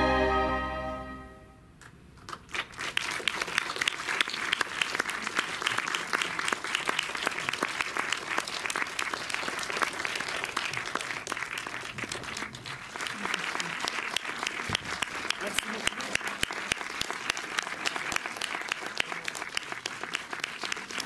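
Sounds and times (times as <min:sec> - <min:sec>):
audience applauding: 0:02.2 - 0:21.0.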